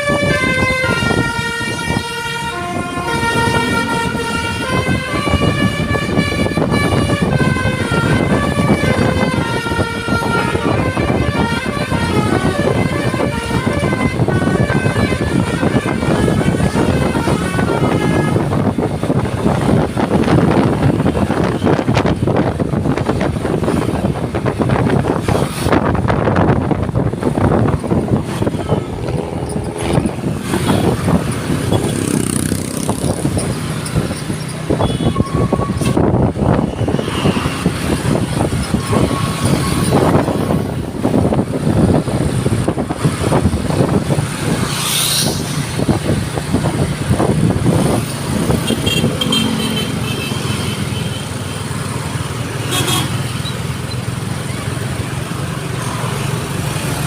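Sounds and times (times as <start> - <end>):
road traffic passing: 0.0 - 57.0
wind on microphone: 0.0 - 57.0.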